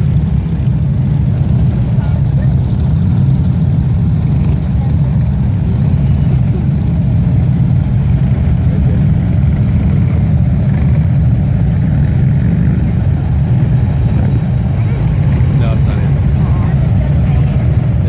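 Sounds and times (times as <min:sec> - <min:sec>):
motorcycle engines idling: 0:00.0 - 0:18.0.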